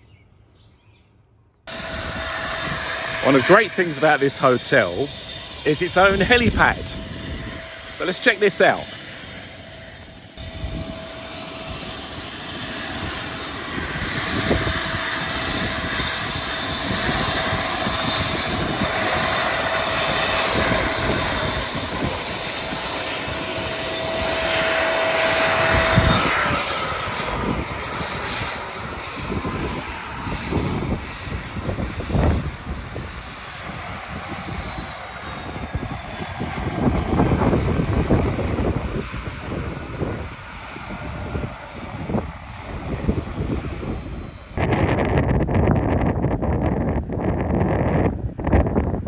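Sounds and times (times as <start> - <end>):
helicopter turbine whine: 1.2 - 49.0.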